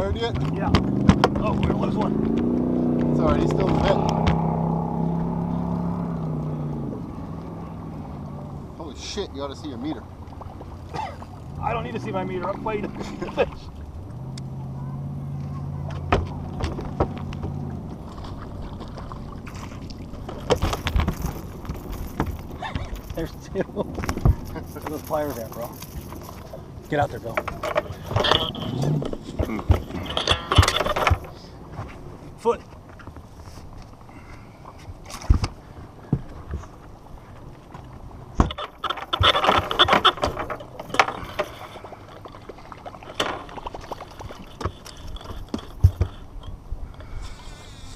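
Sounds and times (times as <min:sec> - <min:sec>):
fishing gear clattering and knocking: 0:00.0 - 0:05.4, 0:08.8 - 0:34.1, 0:34.7 - 0:47.2
water splashing: 0:00.0 - 0:46.5
boat motor humming: 0:00.0 - 0:47.9.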